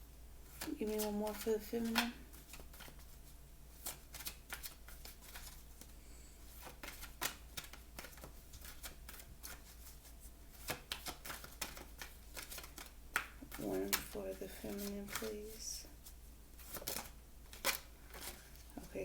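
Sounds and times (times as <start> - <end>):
playing cards shuffled by hand: 0.4 - 5.9, 6.5 - 18.9.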